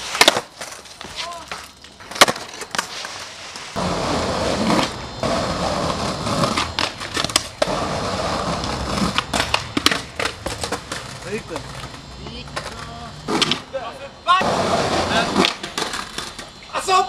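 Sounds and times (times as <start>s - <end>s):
skateboard clacking: 0.0s - 13.8s, 14.4s - 16.9s
skateboard rolling and scraping: 0.0s - 16.7s.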